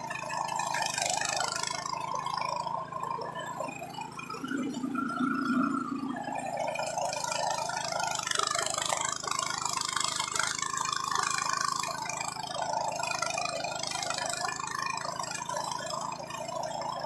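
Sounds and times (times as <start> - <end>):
mower cutting thick dry grass: 0.0 - 17.0
push mower engine running: 0.0 - 17.0.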